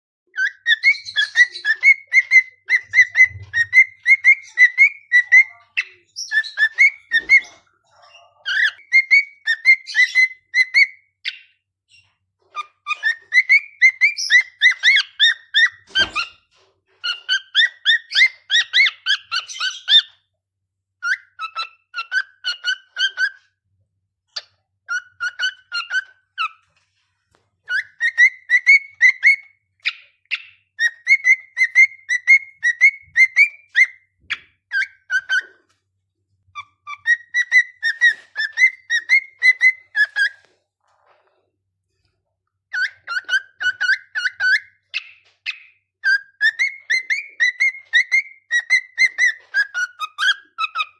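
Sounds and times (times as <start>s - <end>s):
cockatiel whistled chirps: 0.4s - 7.6s, 8.4s - 11.5s, 12.6s - 16.4s, 17.0s - 20.2s, 21.0s - 23.4s, 24.9s - 26.6s, 27.7s - 35.6s, 36.6s - 40.5s, 42.7s - 50.9s.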